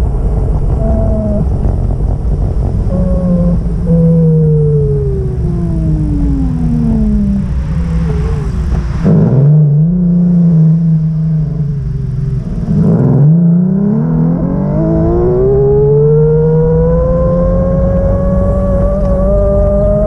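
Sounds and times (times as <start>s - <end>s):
vehicle engine accelerating: 0.0s - 20.0s.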